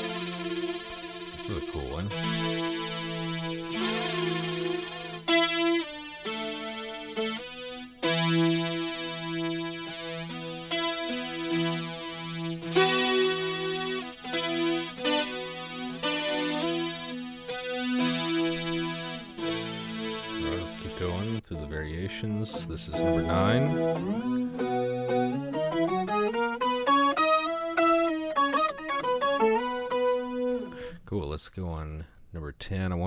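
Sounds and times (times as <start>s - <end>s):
synth lead electric guitar notes: 0.0s - 31.0s.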